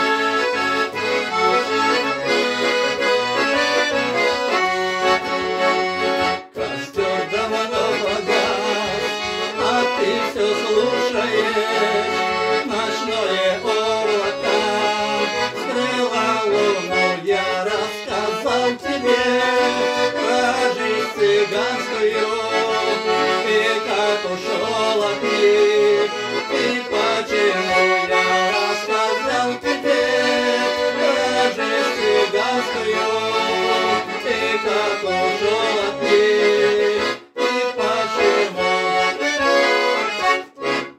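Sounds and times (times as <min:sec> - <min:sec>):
accordion playing: 0:00.0 - 0:40.9.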